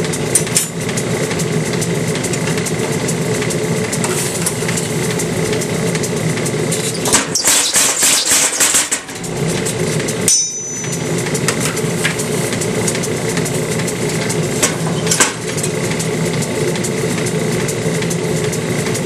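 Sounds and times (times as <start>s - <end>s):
power hammer striking hot steel: 0.0s - 6.1s, 6.7s - 16.4s
hammer drive running: 0.0s - 19.0s.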